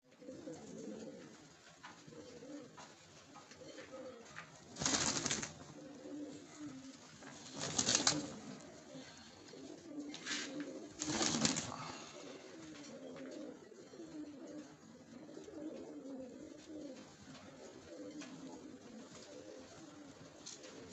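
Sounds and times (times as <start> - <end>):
pigeons cooing: 0.0 - 20.9.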